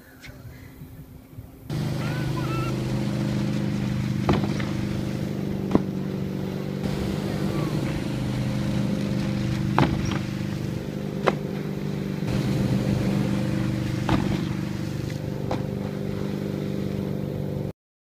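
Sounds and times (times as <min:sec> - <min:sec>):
motorboat engine running: 0:01.7 - 0:17.7.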